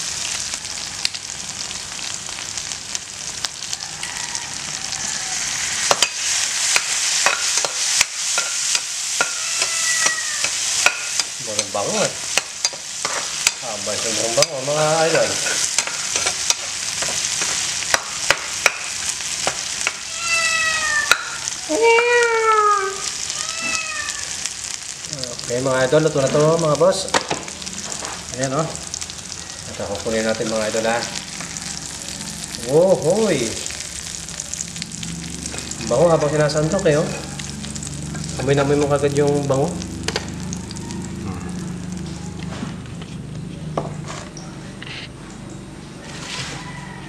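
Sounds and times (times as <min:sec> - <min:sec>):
food sizzling in a frying pan: 0:00.0 - 0:42.9.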